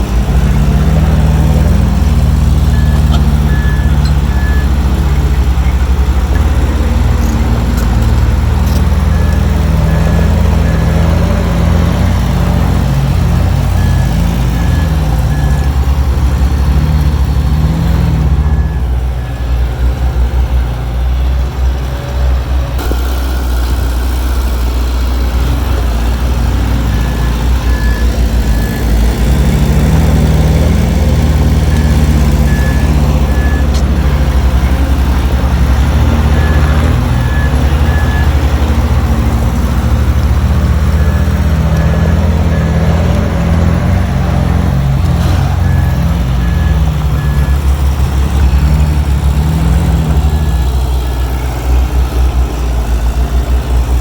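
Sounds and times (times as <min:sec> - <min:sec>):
heavy diesel machinery running: 0:00.0 - 0:54.0
reversing alarm beeping: 0:00.2 - 0:21.2, 0:26.2 - 0:51.4.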